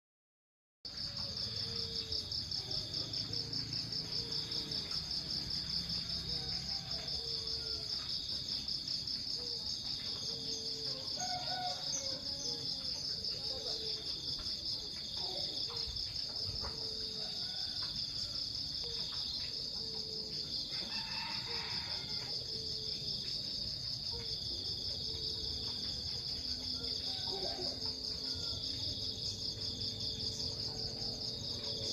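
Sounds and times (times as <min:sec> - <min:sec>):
fainter lower insect calls: 0:00.9 - 0:31.9
high-pitched insect chorus: 0:00.9 - 0:31.9.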